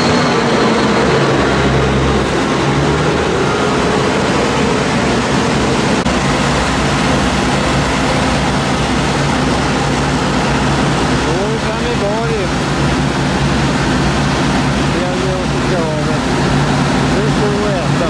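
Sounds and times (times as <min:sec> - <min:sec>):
diesel train rumbling: 0:00.0 - 0:18.0
low engine hum: 0:00.0 - 0:18.0.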